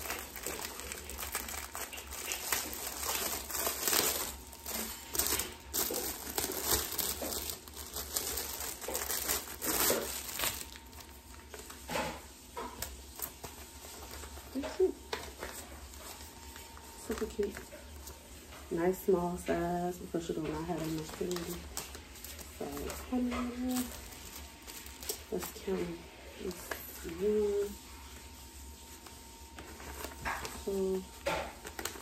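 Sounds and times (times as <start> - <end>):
plastic wrappers crinkling: 0.0 - 32.0.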